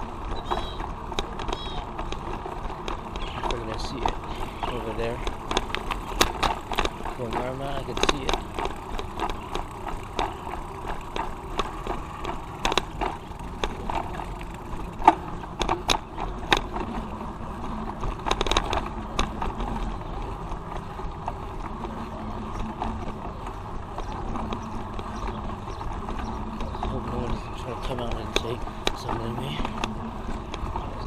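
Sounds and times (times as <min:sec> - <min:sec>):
bicycle rattling over bumps: 0:00.0 - 0:31.0
bicycle tyres rolling: 0:00.0 - 0:31.0.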